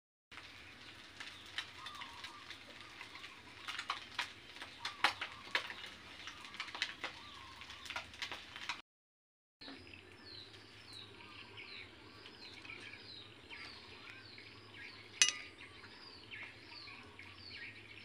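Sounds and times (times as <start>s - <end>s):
birds chirping: 0.5s - 8.6s, 9.6s - 18.0s.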